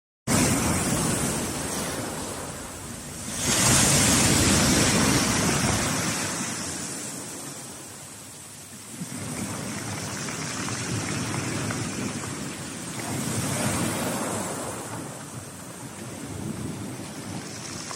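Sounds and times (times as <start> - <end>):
sea waves breaking on shore: 0.3 - 17.9.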